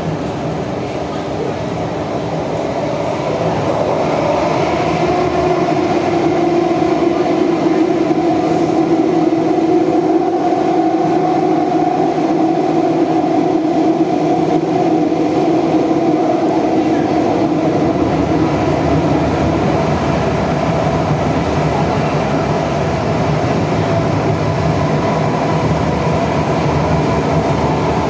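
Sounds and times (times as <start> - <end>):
metro train rumbling and droning: 0.0 - 28.0.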